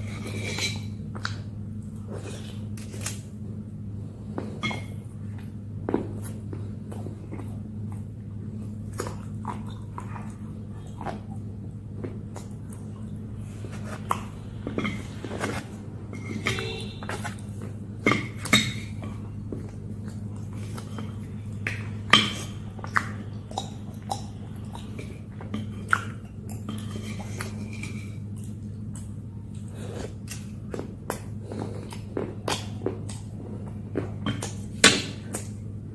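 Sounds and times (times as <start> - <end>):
chewing and crunching: 0.0 - 35.8
low hum: 0.0 - 35.9.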